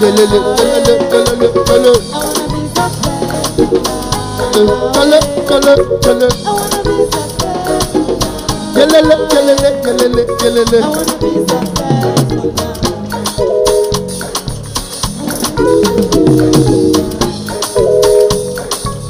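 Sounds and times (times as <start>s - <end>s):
bass guitar: 0.0s - 19.0s
busy percussion: 0.0s - 19.0s
drum kit: 0.0s - 19.0s
melody line: 0.5s - 19.0s.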